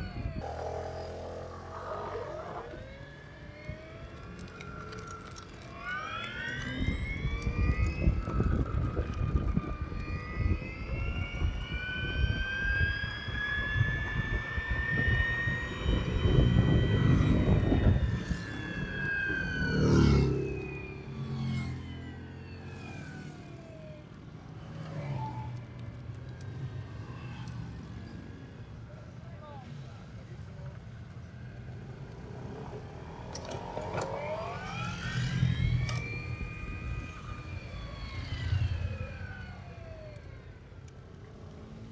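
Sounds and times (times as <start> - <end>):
electric scooter motor whining: 0.0 - 41.9.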